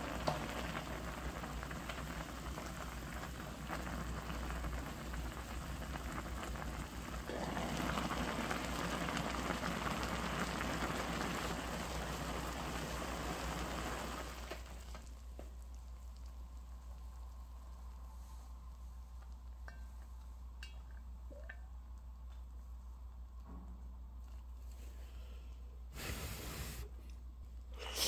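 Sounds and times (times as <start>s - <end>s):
broth boiling hard: 0.0s - 22.0s, 26.0s - 26.9s.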